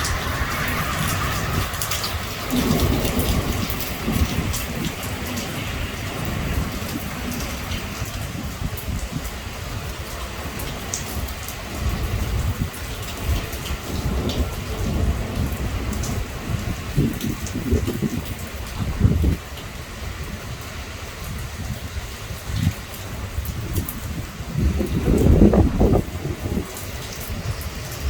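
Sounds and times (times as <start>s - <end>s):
heavy rain pouring: 0.0s - 28.0s
low thunder rumble: 0.0s - 28.0s
raindrops ticking close by: 0.0s - 28.0s.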